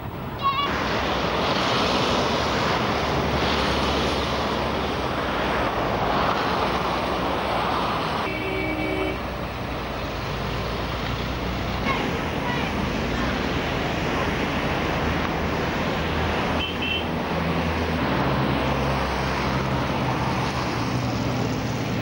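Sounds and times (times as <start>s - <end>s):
cars passing on wet road: 0.0s - 22.0s.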